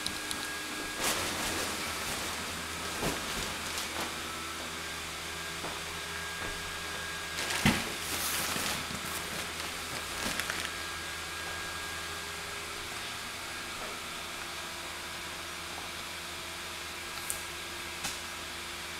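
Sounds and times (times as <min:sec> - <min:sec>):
blower fans whirring: 0:00.0 - 0:18.9.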